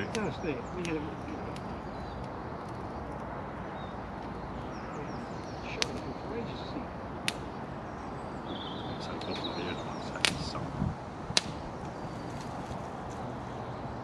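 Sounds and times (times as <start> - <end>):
campfire cracking and popping: 0.0 - 13.5
faint birds chirping: 0.0 - 14.0.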